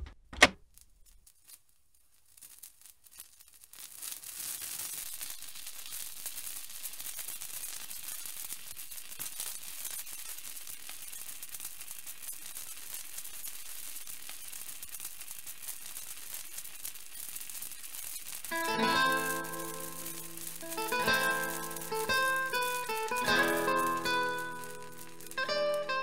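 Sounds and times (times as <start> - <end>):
sparkler fizzing and crackling: 0.7 - 26.0.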